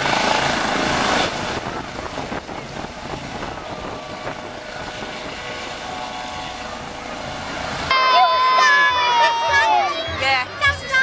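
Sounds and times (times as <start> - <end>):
helicopter rotor and turbines: 0.0 - 11.0.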